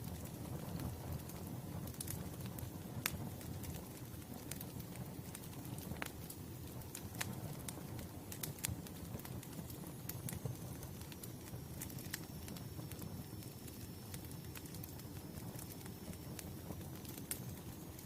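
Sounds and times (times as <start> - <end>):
burning wood crackling: 0.0 - 18.0.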